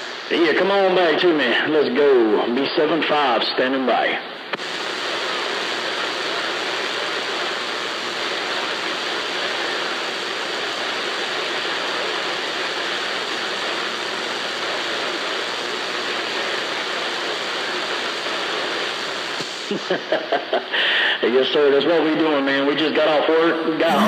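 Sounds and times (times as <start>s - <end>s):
radio static hiss: 0.0s - 21.6s.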